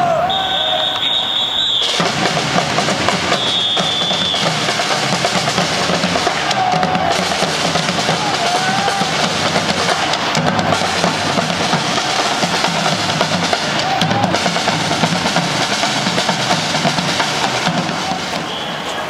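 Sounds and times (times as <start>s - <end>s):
drum-led percussion music: 1.7s - 19.0s.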